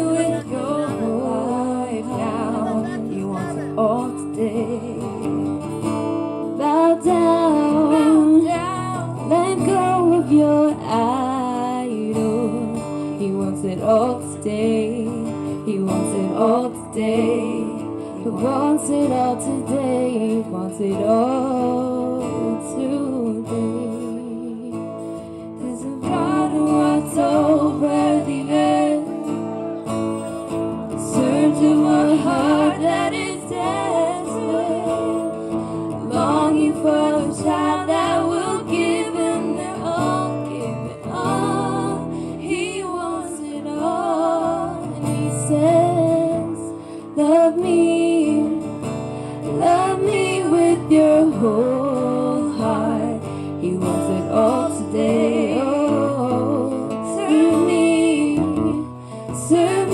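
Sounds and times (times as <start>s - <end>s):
people singing: 0.0s - 5.9s, 6.6s - 24.3s, 25.6s - 59.9s
strummed acoustic guitar: 0.0s - 59.9s.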